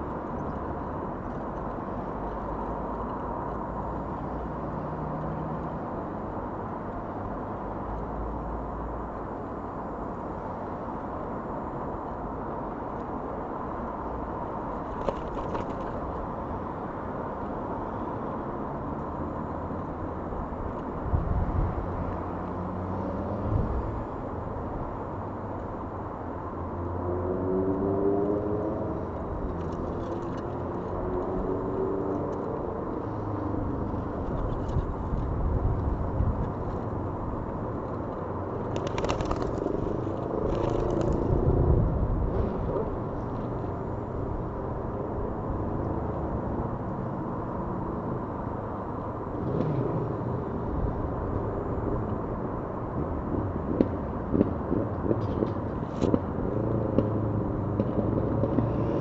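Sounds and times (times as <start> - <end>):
road traffic rumble: 0.0 - 59.0
vehicle engine drone: 0.0 - 59.0.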